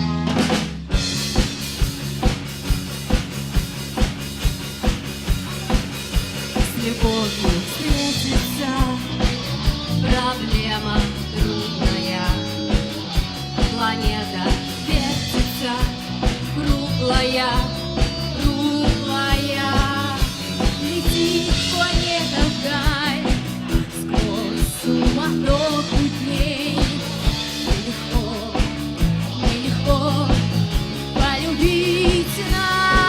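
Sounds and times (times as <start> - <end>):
drum kit beat: 0.0 - 33.0
guitars: 0.0 - 33.0.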